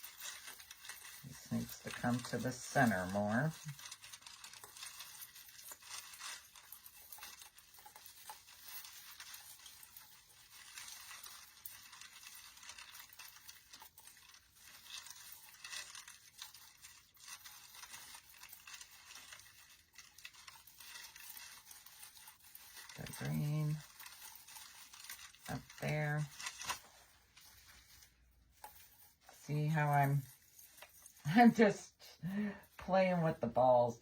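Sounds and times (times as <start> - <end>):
rustling artificial pine branches: 0.0 - 34.0.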